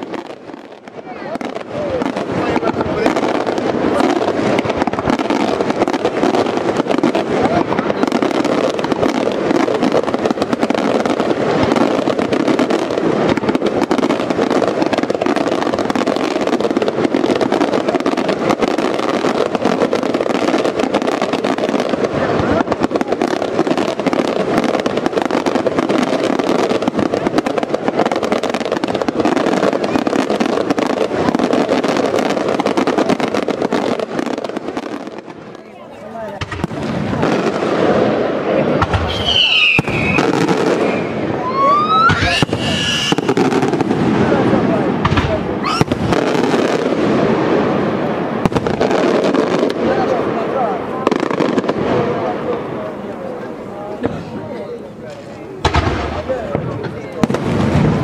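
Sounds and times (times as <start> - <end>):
fireworks explosions and crackling: 0.0 - 58.0.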